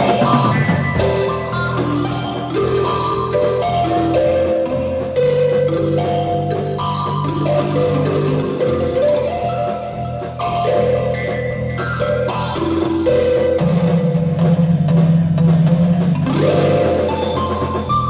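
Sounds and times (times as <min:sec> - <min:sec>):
bass line: 0:00.0 - 0:18.0
drums with cymbal beat: 0:00.0 - 0:18.0
sustained electric guitar notes: 0:00.0 - 0:18.0.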